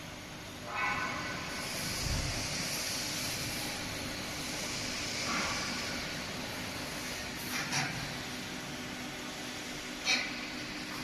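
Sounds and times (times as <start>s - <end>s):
hydraulic machine humming and hissing: 0.0s - 11.0s.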